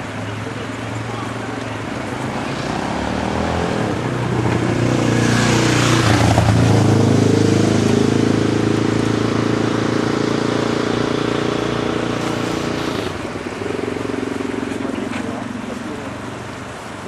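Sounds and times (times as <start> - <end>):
vehicle engine running: 0.0 - 17.0
vehicle passing by: 0.0 - 17.0.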